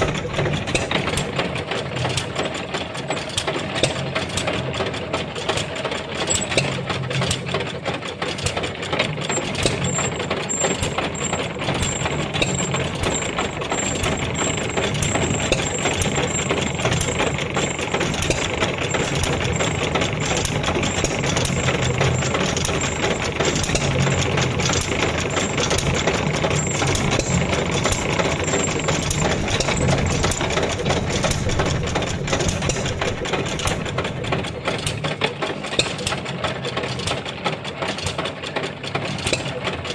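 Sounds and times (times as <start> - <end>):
stationary engine clattering: 0.0 - 39.9.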